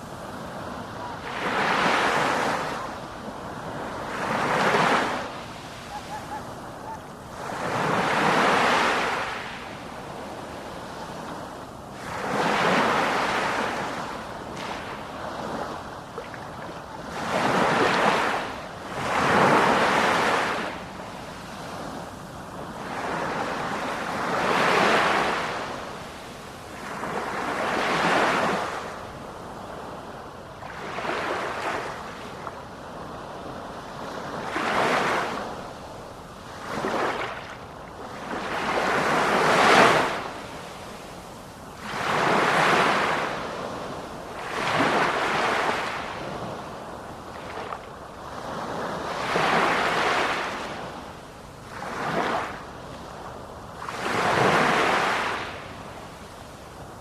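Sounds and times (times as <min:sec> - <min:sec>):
ocean waves breaking: 0:00.0 - 0:29.0, 0:36.4 - 0:51.0, 0:51.7 - 0:53.2, 0:53.8 - 0:55.6.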